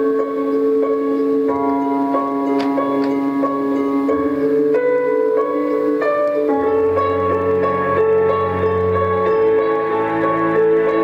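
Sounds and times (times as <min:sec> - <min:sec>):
slow melody of ringing notes: 0:00.0 - 0:11.0.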